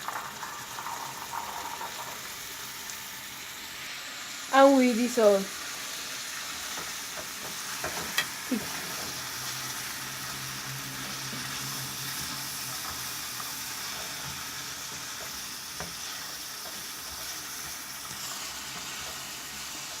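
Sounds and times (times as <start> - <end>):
food sizzling in a skillet: 0.0 - 20.0.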